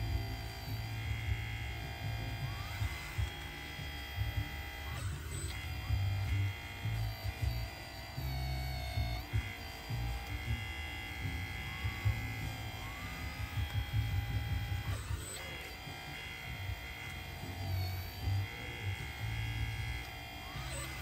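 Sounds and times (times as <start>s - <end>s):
hydraulic pump whining: 0.0s - 21.0s.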